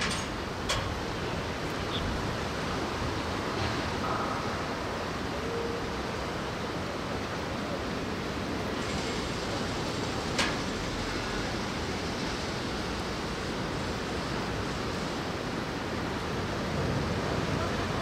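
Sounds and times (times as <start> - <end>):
wind and rain hiss: 0.0 - 18.0.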